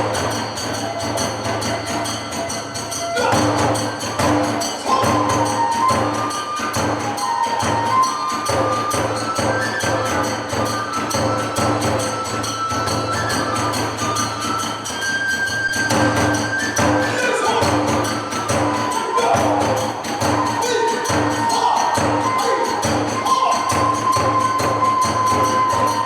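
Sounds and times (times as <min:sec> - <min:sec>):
bamboo flute melody: 0:00.0 - 0:26.0
rapid drum beats: 0:00.0 - 0:26.0
small hand cymbals: 0:00.0 - 0:26.0.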